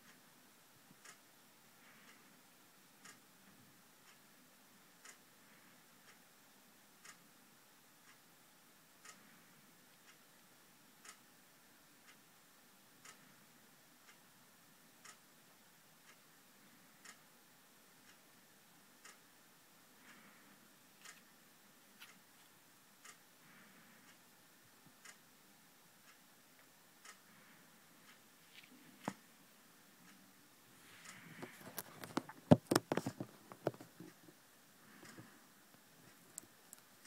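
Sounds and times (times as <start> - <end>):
low hiss: 0.0 - 37.0.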